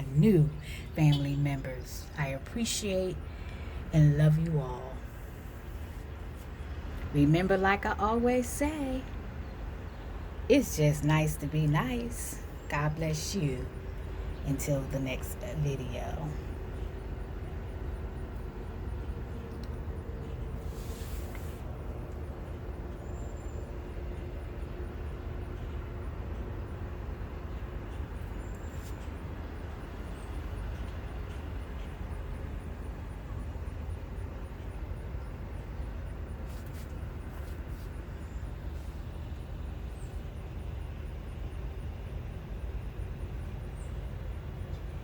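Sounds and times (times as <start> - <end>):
low rumbling background noise: 0.0 - 45.0.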